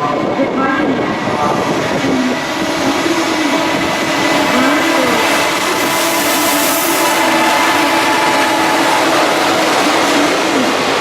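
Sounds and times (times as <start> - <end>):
train rail running noise: 0.0 - 11.0
wavering motor hum: 1.3 - 11.0.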